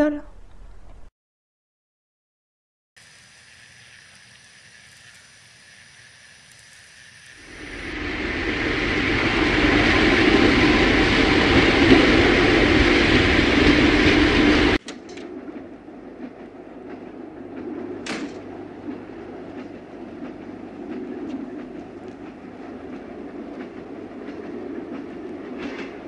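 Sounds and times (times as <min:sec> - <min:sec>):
train passing: 0:03.0 - 0:26.0
train running rumble: 0:03.6 - 0:26.0.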